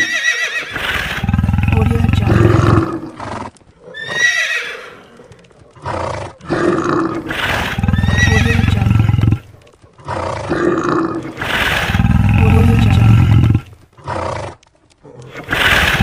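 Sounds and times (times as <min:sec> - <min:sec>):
horse whinnying: 0:00.0 - 0:09.5, 0:10.2 - 0:14.5, 0:15.2 - 0:16.0
long low growls: 0:01.0 - 0:04.0, 0:05.1 - 0:16.0.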